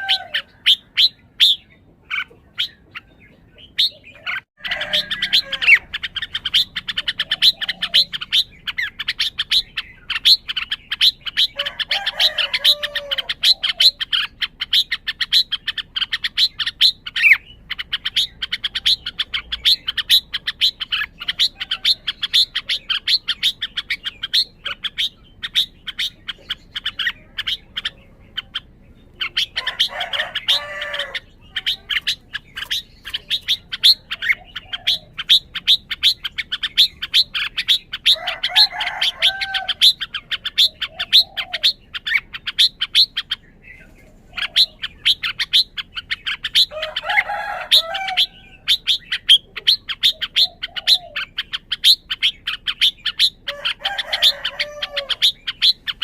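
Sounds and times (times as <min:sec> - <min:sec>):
bulbul warbled song phrases: 0:00.0 - 0:56.0.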